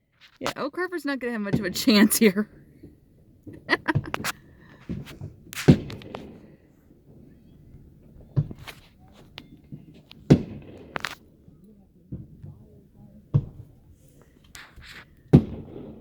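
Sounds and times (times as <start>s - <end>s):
fireworks sharp bangs: 2.8s - 16.0s.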